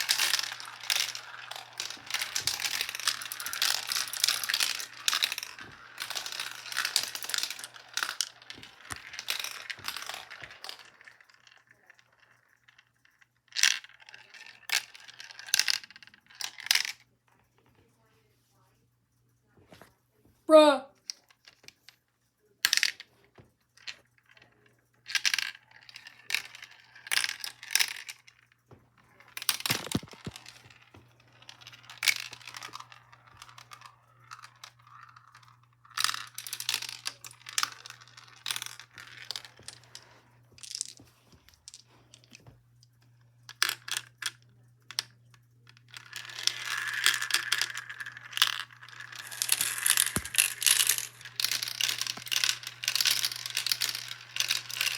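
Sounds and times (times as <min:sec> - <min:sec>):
marbles clattering: 0:00.0 - 0:17.0, 0:23.8 - 0:54.9.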